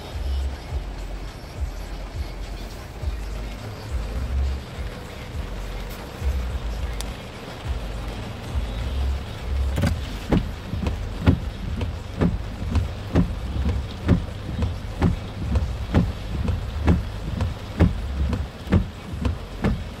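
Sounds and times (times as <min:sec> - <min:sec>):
rain: 0:00.0 - 0:20.0
steady ticking inside car: 0:00.0 - 0:20.0.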